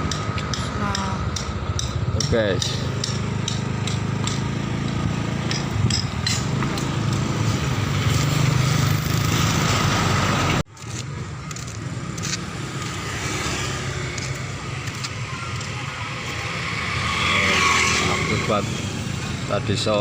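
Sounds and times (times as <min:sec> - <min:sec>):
street ambience low rumble: 0:00.0 - 0:20.0.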